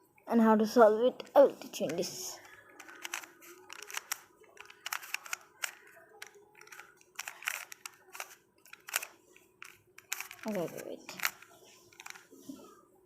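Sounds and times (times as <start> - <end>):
plastic puzzle cube clicking: 1.2 - 12.3.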